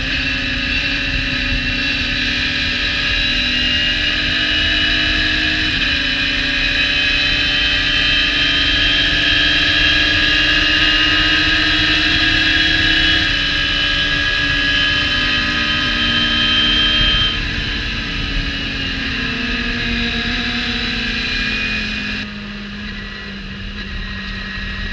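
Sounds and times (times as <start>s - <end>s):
race car engine at high revs: 0.0s - 24.9s.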